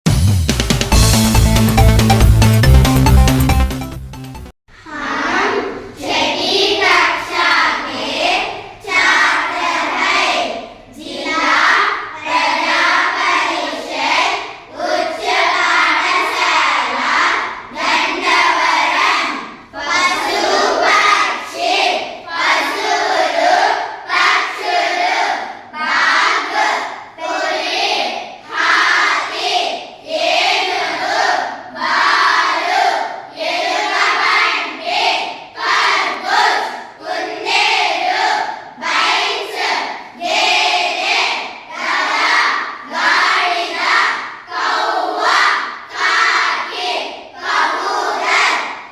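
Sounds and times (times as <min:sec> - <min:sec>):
children chanting in unison: 0:04.7 - 0:48.9.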